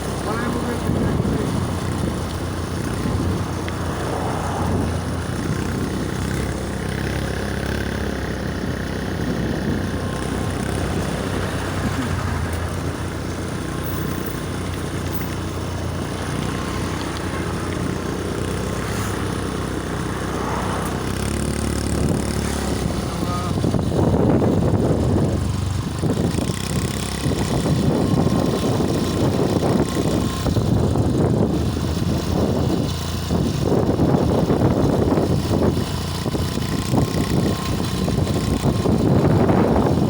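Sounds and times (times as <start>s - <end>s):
road vehicle motor humming: 0.0s - 40.0s.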